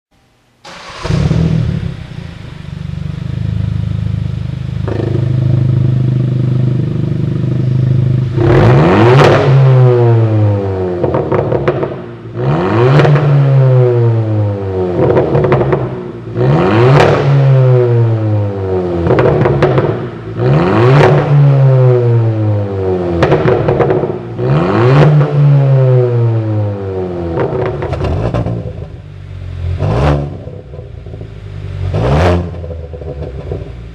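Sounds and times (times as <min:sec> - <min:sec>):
car engine starting and idling: 0:00.4 - 0:33.9
car engine revving with pops: 0:00.6 - 0:33.9.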